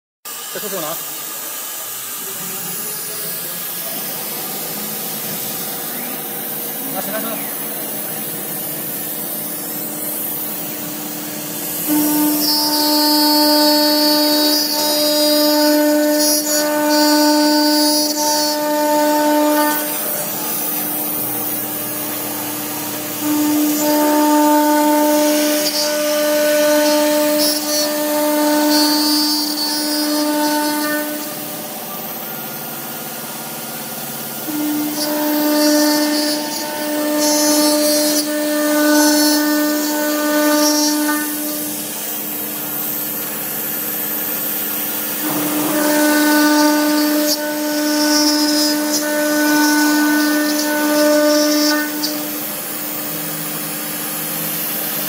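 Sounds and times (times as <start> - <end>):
router spindle whine: 0.3 - 55.0
tool cutting metal: 0.3 - 55.0.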